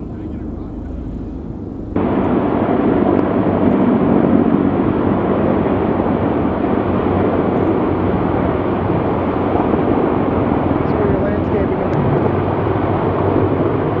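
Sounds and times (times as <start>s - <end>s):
helicopters flying past: 0.0s - 14.0s.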